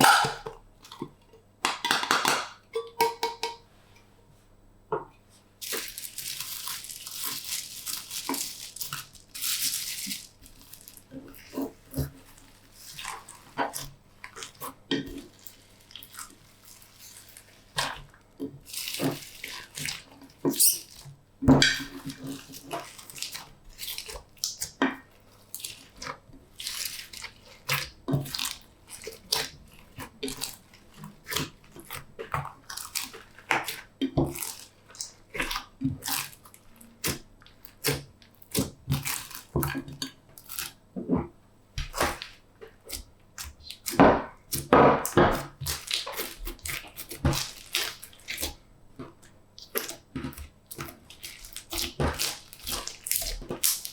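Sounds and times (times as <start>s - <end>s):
slime squelching and popping: 5.6s - 40.8s, 41.8s - 53.9s.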